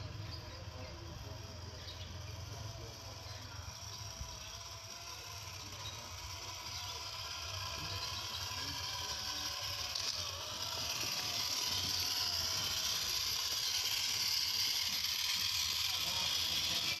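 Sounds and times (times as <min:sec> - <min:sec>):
electric motor and gears whirring: 0:00.0 - 0:17.0.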